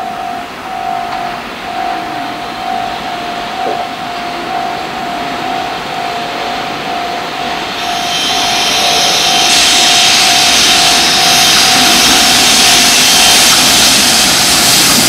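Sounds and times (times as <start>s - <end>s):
freight train rushing noise: 0.0s - 15.0s
high whine: 0.0s - 15.0s.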